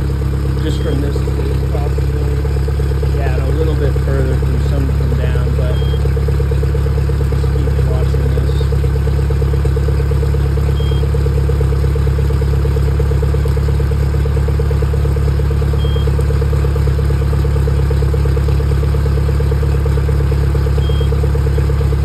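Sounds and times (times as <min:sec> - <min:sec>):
outboard engine idling: 0:00.0 - 0:22.0.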